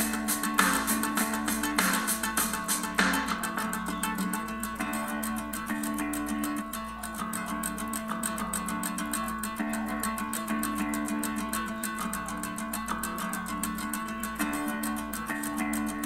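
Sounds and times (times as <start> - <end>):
fast steady beat: 0.0 - 16.0
plucked guitar music: 0.0 - 16.0.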